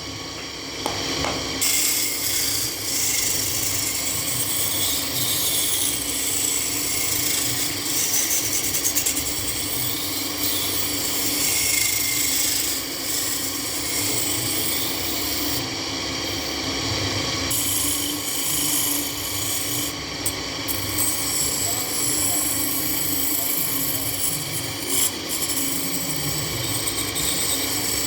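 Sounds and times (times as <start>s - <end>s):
lathe motor hum: 0.0s - 28.0s
tool scraping spinning wood: 1.2s - 16.7s, 17.5s - 28.0s.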